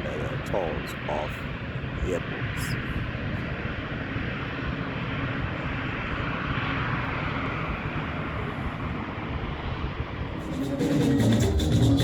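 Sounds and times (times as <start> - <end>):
jet airliner engines rumbling: 0.0 - 12.0.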